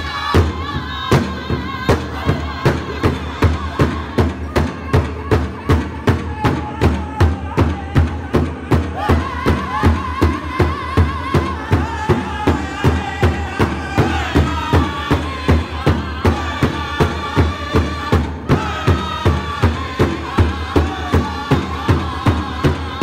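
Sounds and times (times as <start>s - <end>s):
group singing: 0.0s - 23.0s
large drum beating: 0.0s - 23.0s.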